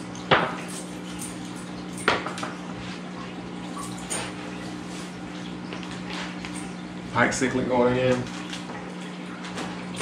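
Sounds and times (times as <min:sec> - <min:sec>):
aquarium equipment hum: 0:00.0 - 0:10.0.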